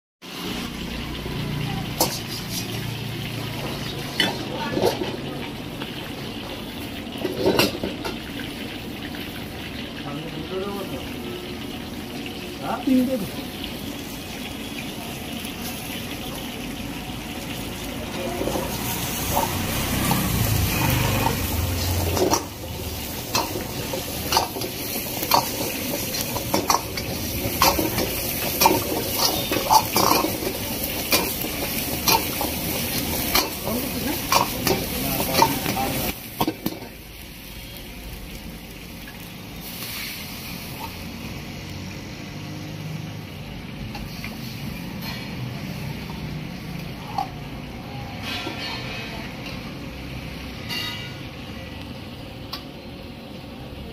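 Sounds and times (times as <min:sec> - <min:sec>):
vegetables sizzling in oil: 0:00.2 - 0:53.9.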